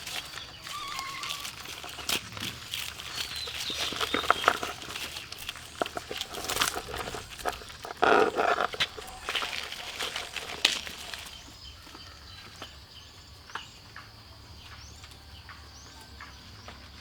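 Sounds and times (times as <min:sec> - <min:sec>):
small bird chirping: 0:00.0 - 0:13.8
steady high insect hum: 0:00.0 - 0:17.0.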